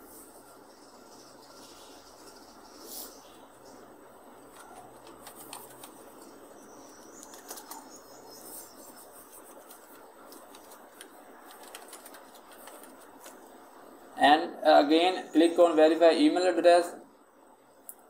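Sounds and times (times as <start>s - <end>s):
low steady hiss: 0.0s - 18.0s.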